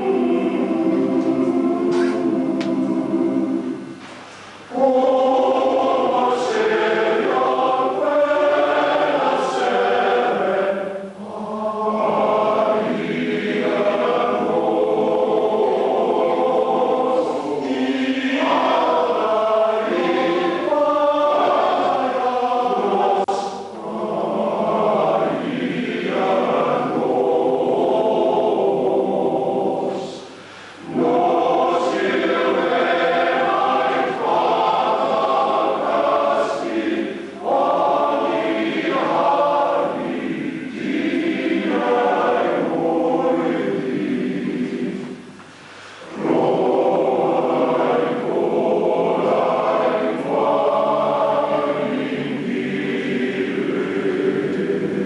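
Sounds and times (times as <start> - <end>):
choir singing: 0.0 - 4.0, 4.6 - 55.0.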